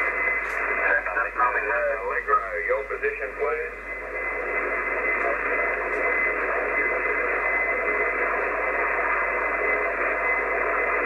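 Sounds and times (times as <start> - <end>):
radio band noise hiss: 0.0 - 11.0.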